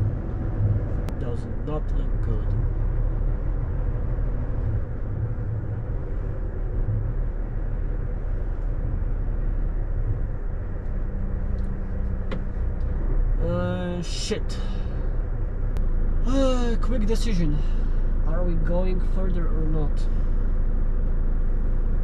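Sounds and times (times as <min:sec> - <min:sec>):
road noise: 0:00.0 - 0:22.0
steady hum: 0:00.0 - 0:22.0
truck diesel engine rumble: 0:00.0 - 0:22.0.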